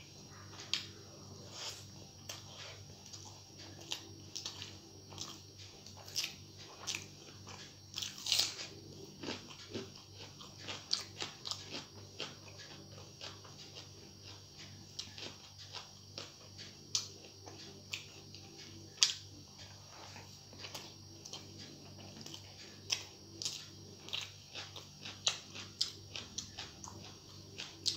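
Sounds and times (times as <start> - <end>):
steady low hum: 0.0 - 27.9
chewing: 0.3 - 27.9.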